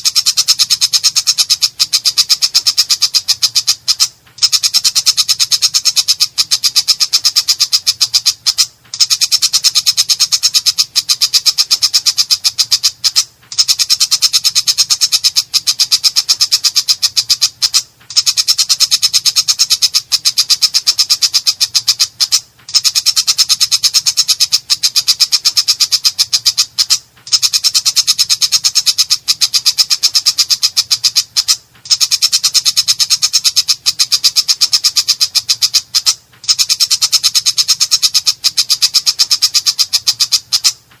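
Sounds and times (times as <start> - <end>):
bird harsh rapid chattering call: 0.0 - 40.9.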